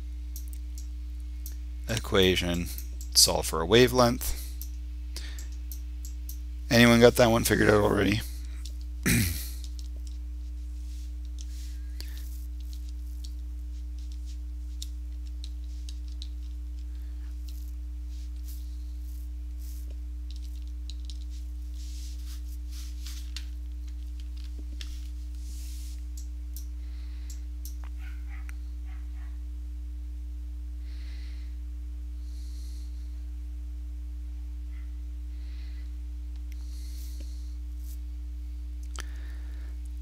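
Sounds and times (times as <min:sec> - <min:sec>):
low electrical hum: 0:00.0 - 0:40.0
faint scattered ticks: 0:00.3 - 0:03.4, 0:04.0 - 0:07.3, 0:08.0 - 0:29.4, 0:34.7 - 0:38.1, 0:38.7 - 0:40.0.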